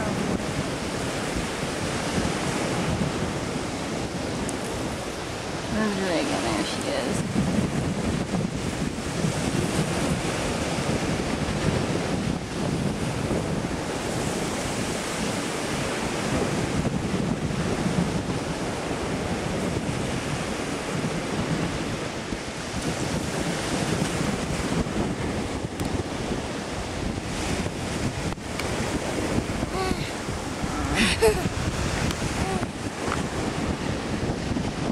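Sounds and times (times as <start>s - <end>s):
small waves washing onto beach: 0.0s - 34.9s
wind buffeting microphone: 0.0s - 34.9s.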